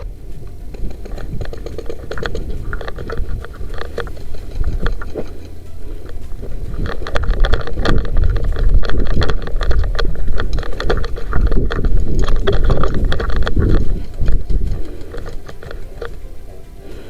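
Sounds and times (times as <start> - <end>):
gear rattling: 0.0 - 17.0
rapid footsteps: 0.0 - 17.0
wind buffeting microphone: 0.0 - 17.0.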